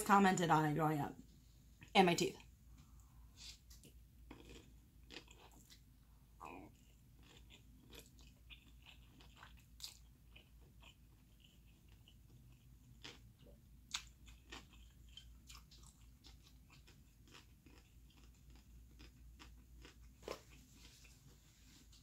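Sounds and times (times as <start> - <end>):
person chewing: 1.8 - 22.0.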